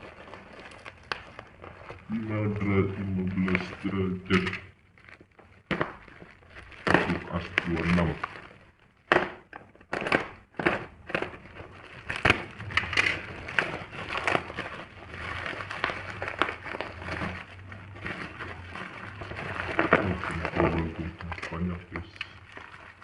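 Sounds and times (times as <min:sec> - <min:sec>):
packaging crinkling and rustling: 0:00.0 - 0:23.0.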